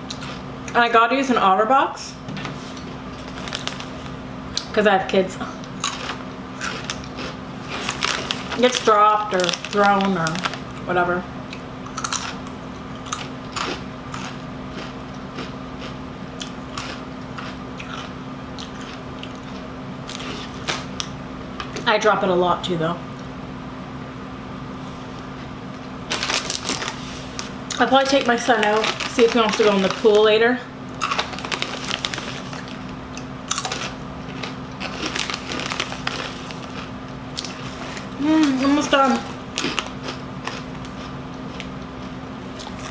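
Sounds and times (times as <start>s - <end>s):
crunching and chewing chips: 0.0s - 0.8s, 3.2s - 4.7s, 5.6s - 10.9s, 11.5s - 21.8s, 26.1s - 42.9s.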